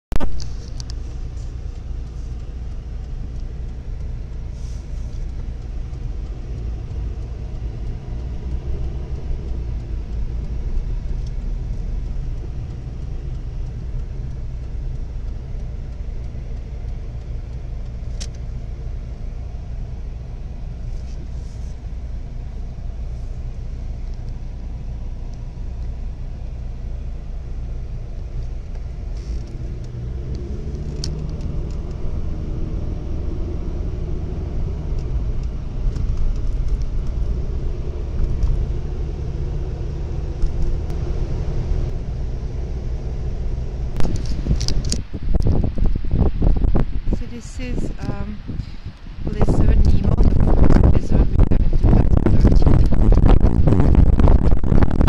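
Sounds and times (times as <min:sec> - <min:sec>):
car engine rumble: 0:00.1 - 0:55.0
road noise inside car: 0:00.1 - 0:55.0.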